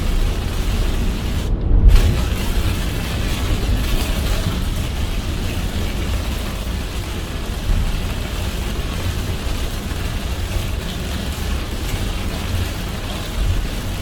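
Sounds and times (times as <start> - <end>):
rain hissing on car: 0.0 - 14.0
road and engine rumble: 0.0 - 14.0
tyres on wet road: 0.0 - 14.0.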